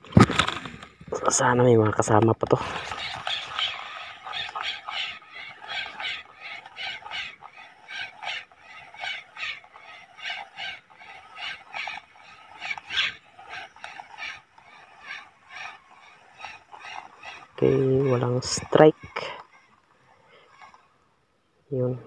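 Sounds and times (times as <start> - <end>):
fishing reel ticking: 2.0 - 21.0.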